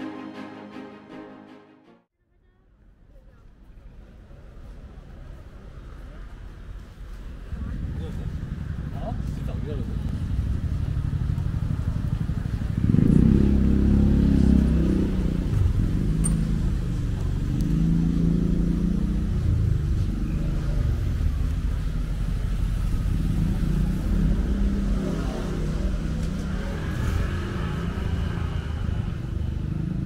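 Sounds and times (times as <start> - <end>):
traffic rumbling past: 3.8 - 30.0.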